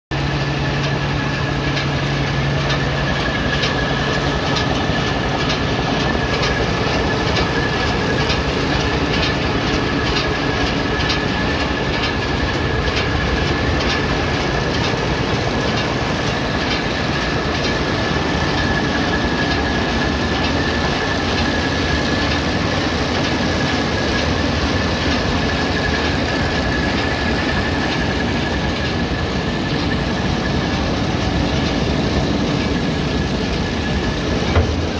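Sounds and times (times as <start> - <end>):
farm machinery engine running: 0.1 - 34.9.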